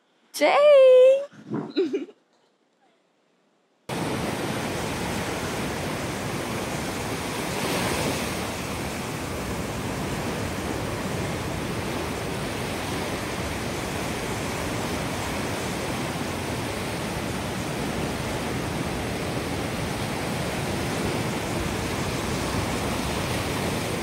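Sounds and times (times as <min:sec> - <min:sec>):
ocean surf washing: 0:03.9 - 0:24.0.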